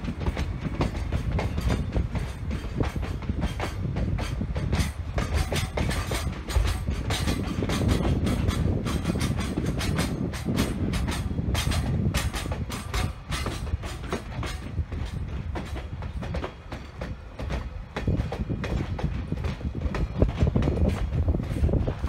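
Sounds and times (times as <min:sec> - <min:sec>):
train wagons rumbling: 0:00.0 - 0:22.0
wheel clacks over rail joints: 0:00.0 - 0:22.0.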